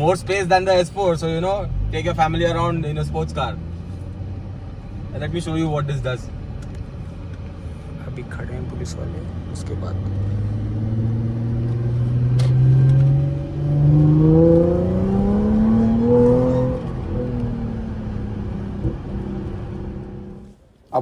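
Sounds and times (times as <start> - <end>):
car engine accelerating hard: 0.0 - 20.6.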